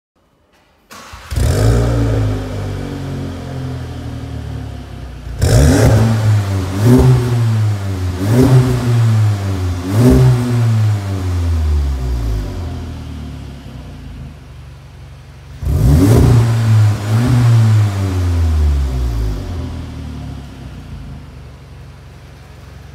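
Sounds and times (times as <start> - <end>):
car engine revving and idling: 0.9 - 22.9.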